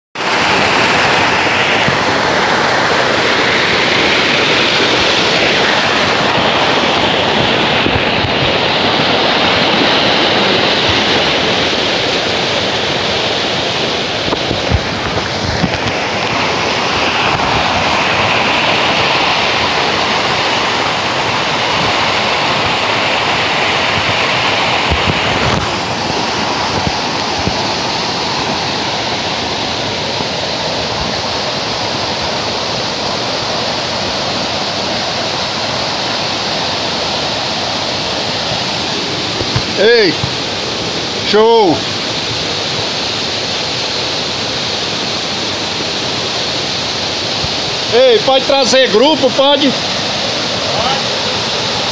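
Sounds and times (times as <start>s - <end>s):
waterfall rushing: 0.2s - 51.9s.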